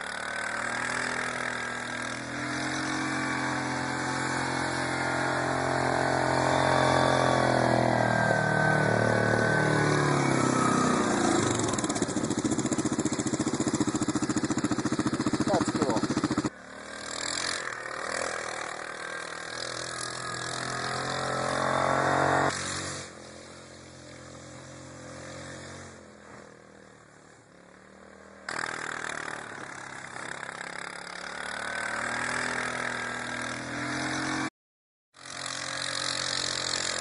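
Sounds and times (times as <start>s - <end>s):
atv engine revving: 0.0s - 34.5s, 35.2s - 37.0s.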